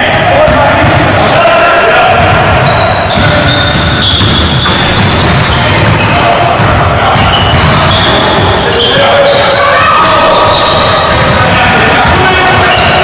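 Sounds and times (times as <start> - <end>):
basketball bouncing: 0.3 - 1.3, 2.1 - 13.0
sneakers squeaking: 0.4 - 1.6, 2.2 - 13.0.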